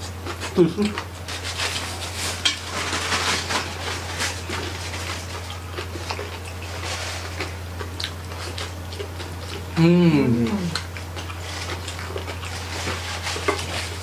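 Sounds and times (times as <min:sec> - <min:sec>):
chewing: 0:00.0 - 0:14.0
steady low hum: 0:00.0 - 0:14.0.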